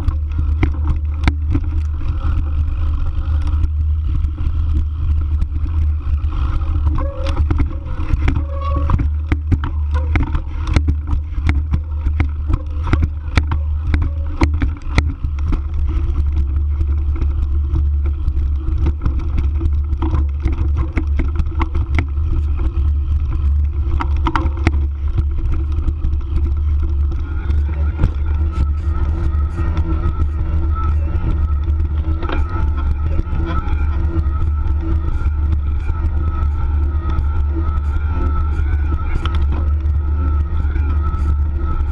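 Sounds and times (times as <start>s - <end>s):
bike clicks and rattles: 0.0s - 41.9s
wind rumble on microphone: 0.0s - 41.9s.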